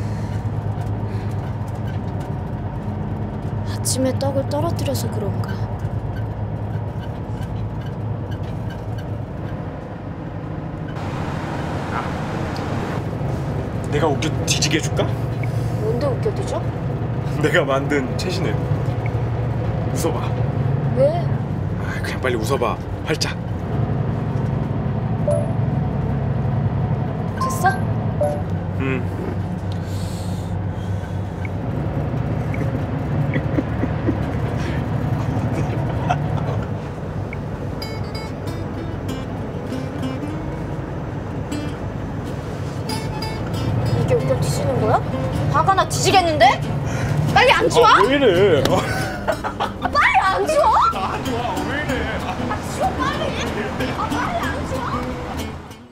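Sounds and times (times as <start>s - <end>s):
road noise hiss: 0.0s - 4.0s, 7.2s - 27.4s, 28.0s - 55.9s
bus engine drone: 0.0s - 55.9s.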